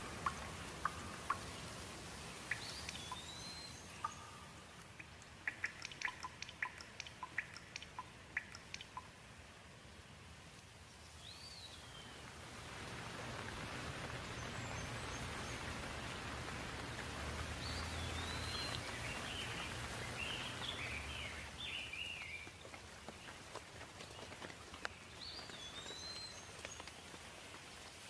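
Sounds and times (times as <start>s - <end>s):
songbirds calling: 0.0s - 28.0s.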